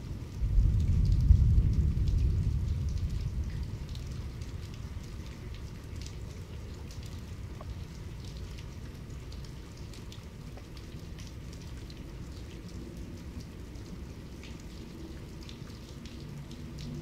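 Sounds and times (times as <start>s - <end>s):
rain hissing: 0.0s - 17.0s
raindrops striking close by: 0.0s - 17.0s.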